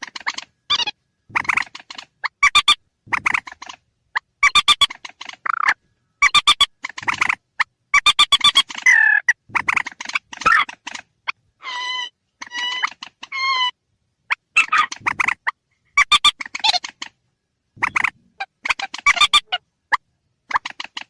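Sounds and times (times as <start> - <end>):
rail bird clucking calls: 0.0 - 17.2, 17.8 - 21.0.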